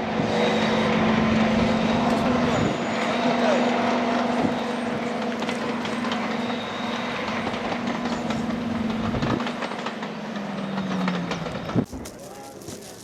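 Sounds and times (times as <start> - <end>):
diesel locomotive engine: 0.0 - 13.0
wheel and rail noise: 0.0 - 13.0.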